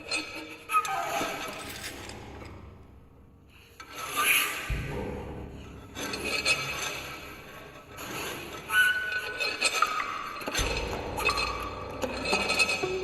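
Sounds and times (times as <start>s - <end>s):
experimental chamber music: 0.0s - 13.0s.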